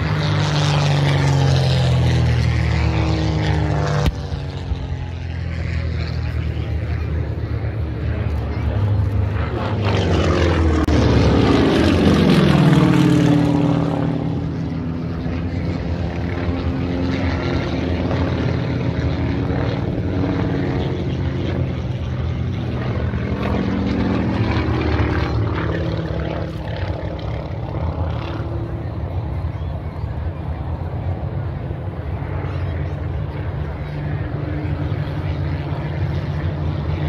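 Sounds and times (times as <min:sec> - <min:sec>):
propeller aircraft engine passing: 0:00.0 - 0:37.0.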